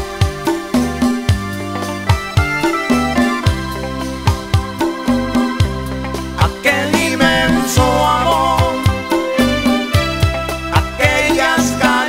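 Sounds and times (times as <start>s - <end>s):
electronic keyboard lead melody: 0.0s - 12.0s
live band playing instrumental: 0.0s - 12.0s.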